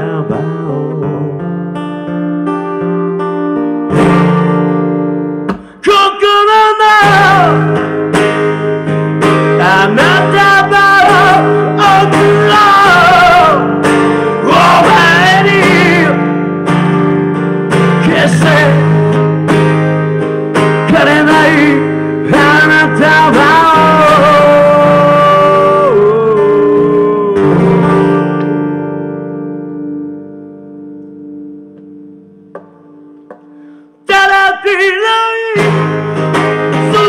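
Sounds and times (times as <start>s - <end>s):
electric bass notes: 0.0s - 5.8s, 7.0s - 33.9s
acoustic guitar: 0.0s - 37.0s.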